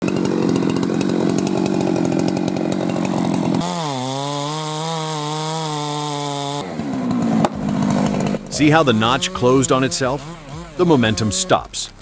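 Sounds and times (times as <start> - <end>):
chainsaw cutting tree trunk: 0.0 - 12.0.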